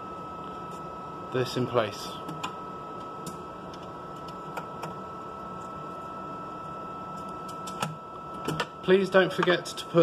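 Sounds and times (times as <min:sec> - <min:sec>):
equipment hum: 0:00.0 - 0:10.0.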